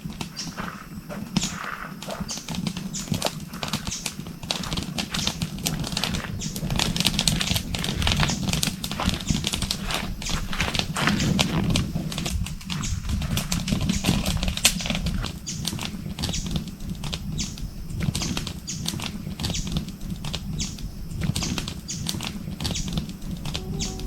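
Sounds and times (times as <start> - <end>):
bonfire crackling and popping: 0.0 - 23.7
low rumble of flames: 0.0 - 24.0.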